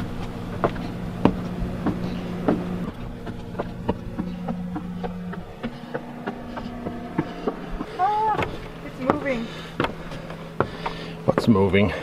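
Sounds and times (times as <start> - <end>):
low hum: 0.0 - 11.4
footsteps on wooden stairs: 0.0 - 12.0.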